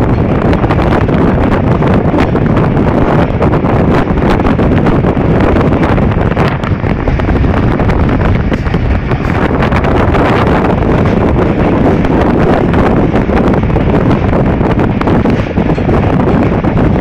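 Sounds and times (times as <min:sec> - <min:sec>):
train rumbling on track: 0:00.0 - 0:17.0
wind buffeting microphone: 0:00.0 - 0:17.0.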